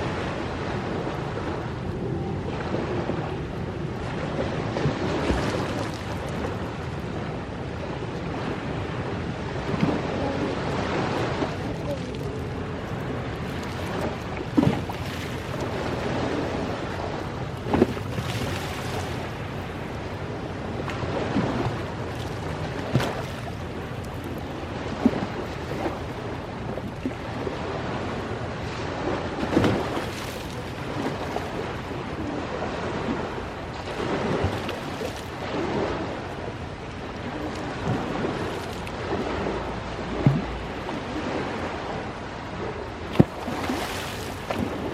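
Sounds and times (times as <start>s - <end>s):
ocean waves washing in: 0.0s - 44.9s.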